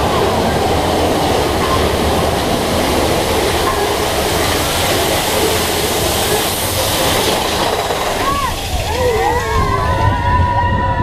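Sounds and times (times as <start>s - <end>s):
roller coaster wheels rumbling: 0.0s - 11.0s
rushing air: 0.0s - 11.0s.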